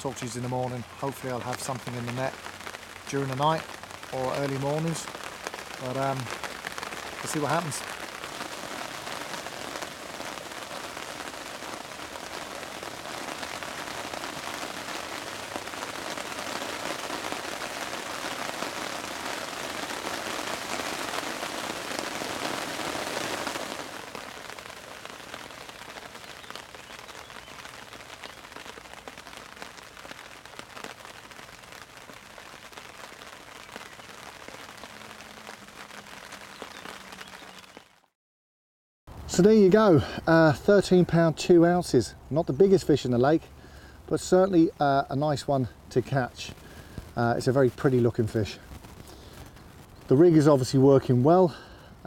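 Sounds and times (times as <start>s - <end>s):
rain falling on lake: 0.0s - 38.2s, 39.1s - 52.0s.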